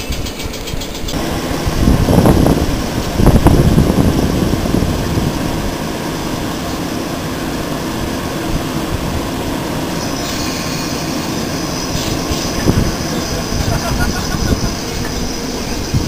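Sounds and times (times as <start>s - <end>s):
high-pitched whine: 0.0s - 16.0s
train equipment humming: 0.0s - 16.0s.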